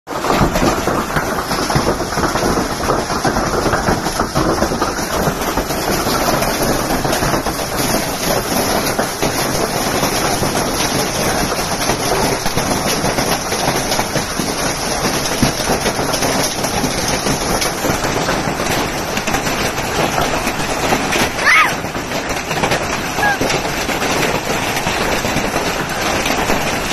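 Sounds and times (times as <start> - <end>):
hail clattering on hard surfaces: 0.1 - 26.9
heavy rain: 0.1 - 26.9.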